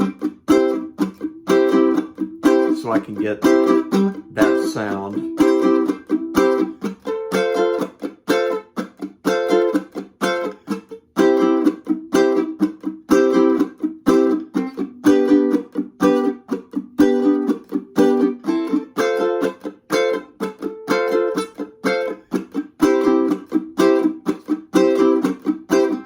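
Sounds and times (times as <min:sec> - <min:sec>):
ukulele strumming: 0:00.0 - 0:26.0.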